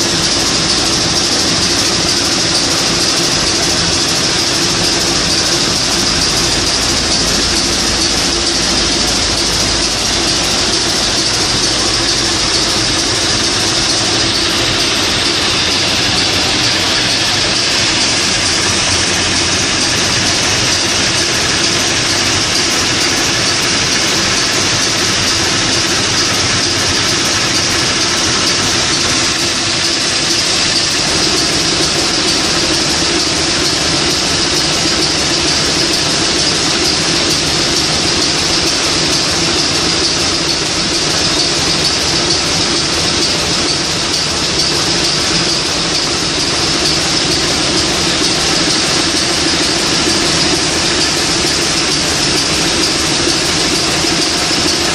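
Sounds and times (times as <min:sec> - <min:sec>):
marine diesel engine running: 0:00.0 - 0:54.9.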